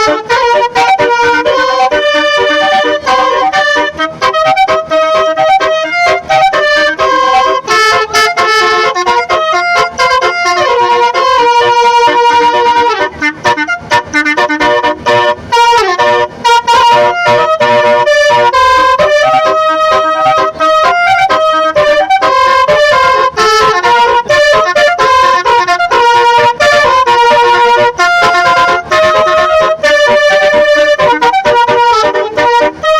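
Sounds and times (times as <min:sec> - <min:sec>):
musical vehicle horn playing tune: 0:00.0 - 0:32.9.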